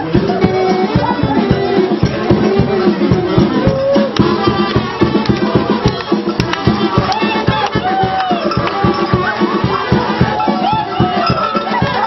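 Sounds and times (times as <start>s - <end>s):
carnival dance music: 0.0s - 12.0s
quick steady drum beat: 0.0s - 12.0s.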